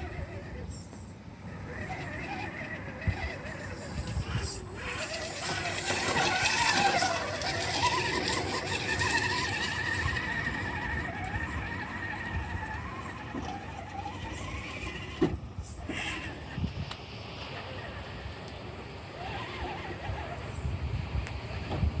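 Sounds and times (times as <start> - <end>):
electric motor whining: 0.0 - 21.9.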